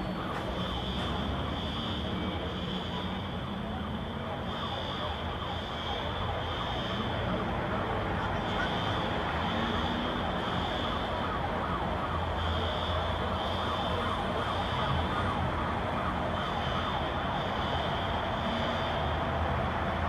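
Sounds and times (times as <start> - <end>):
city noise: 0.0 - 20.0
distant siren: 0.0 - 20.0.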